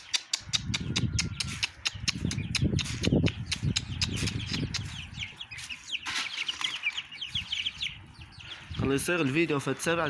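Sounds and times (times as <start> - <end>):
chickens clucking: 0.0 - 10.0
chicks peeping: 0.0 - 10.0.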